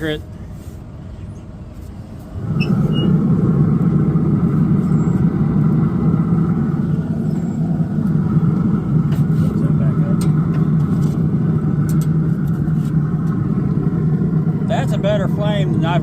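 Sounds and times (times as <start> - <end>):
rumble of flame under fan: 0.0 - 16.0.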